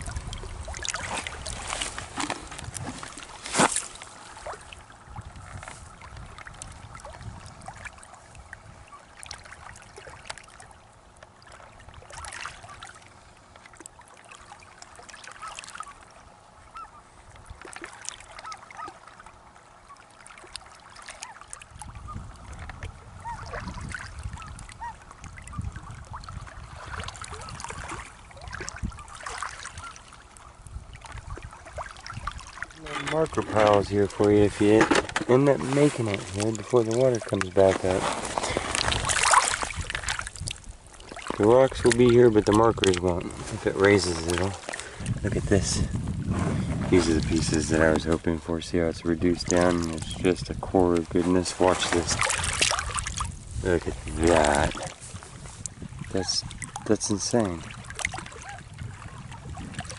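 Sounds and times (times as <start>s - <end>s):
small waves lapping on rocks: 0.0s - 59.9s.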